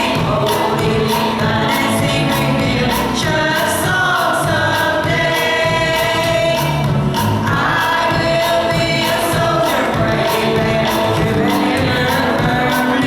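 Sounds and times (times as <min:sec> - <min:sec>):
congregation singing a hymn: 0:00.0 - 0:13.0
instrumental accompaniment: 0:00.0 - 0:13.0.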